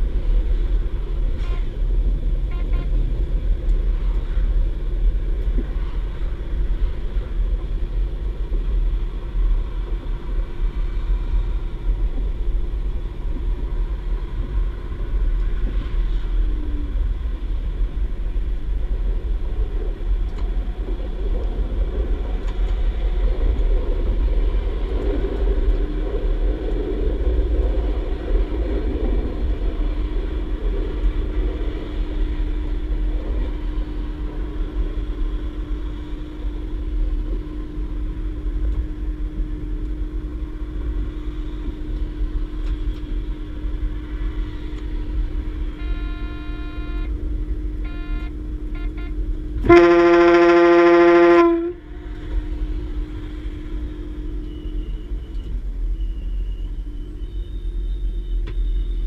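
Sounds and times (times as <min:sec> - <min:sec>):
diesel engine hum: 0:00.0 - 0:59.0
train rumble on track: 0:00.0 - 0:59.0.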